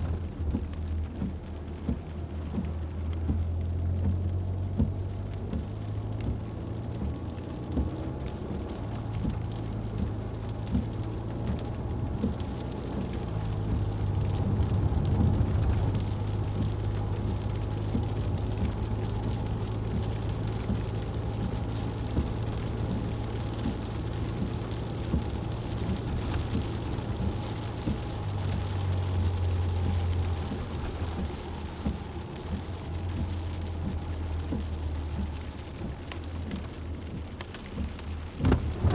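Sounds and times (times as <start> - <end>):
low engine hum: 0.0 - 38.9
rain drops ticking on car: 0.0 - 38.9
water and road noise: 0.0 - 38.9.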